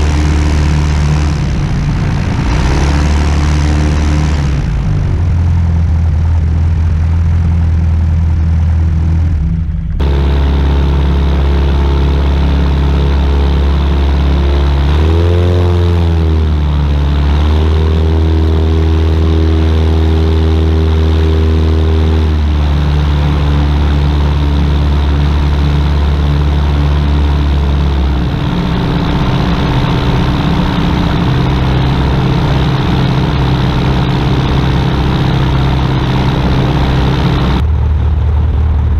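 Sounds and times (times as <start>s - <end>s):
propeller engine running: 0.0s - 38.9s.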